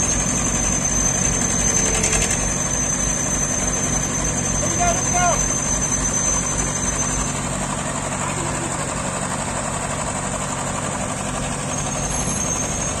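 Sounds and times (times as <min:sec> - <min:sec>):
crane engine idling: 0:00.0 - 0:13.0.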